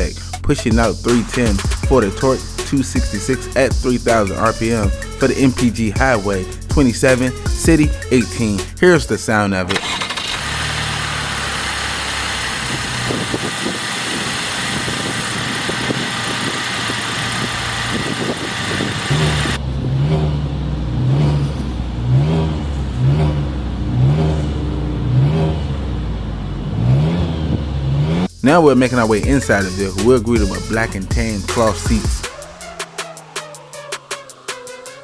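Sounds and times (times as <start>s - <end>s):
car engine running and revving: 0.0s - 9.0s, 9.7s - 35.0s.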